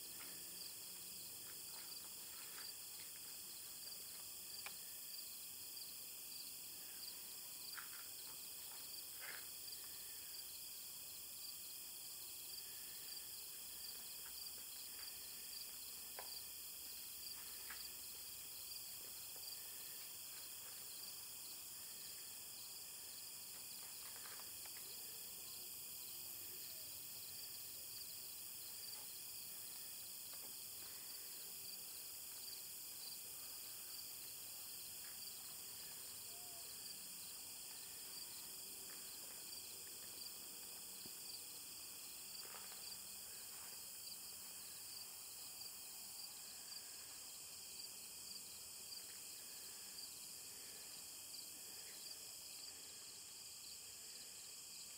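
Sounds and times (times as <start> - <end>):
insects chirping: 0.0 - 54.9.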